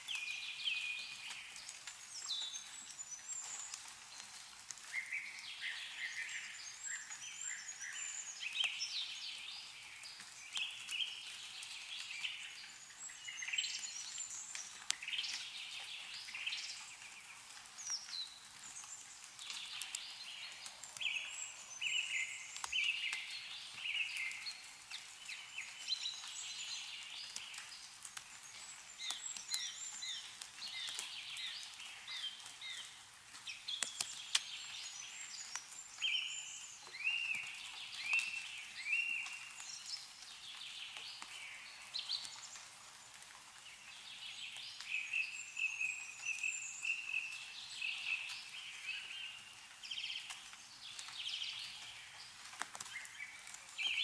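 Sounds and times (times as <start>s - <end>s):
meltwater dripping: 0.0s - 54.0s
songbirds chirping and trilling: 0.0s - 54.0s.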